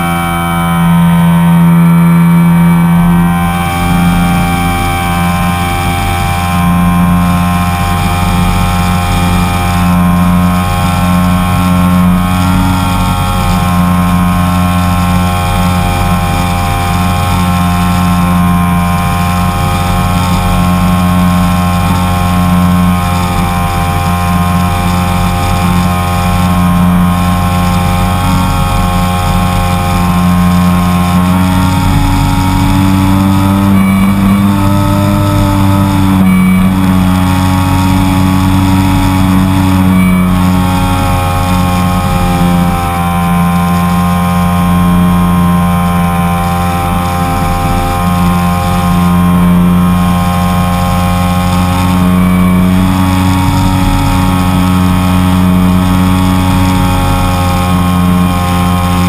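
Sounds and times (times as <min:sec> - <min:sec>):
model plane electric motor and propeller: 0:00.0 - 0:59.0.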